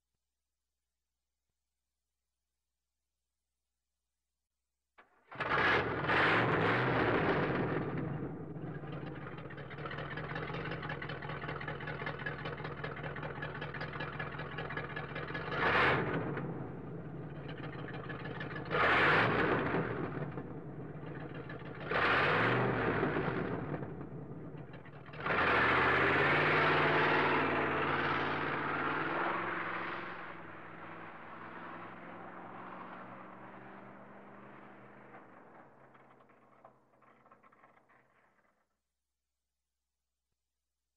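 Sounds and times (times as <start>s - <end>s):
car engine idling and revving: 5.3s - 38.6s.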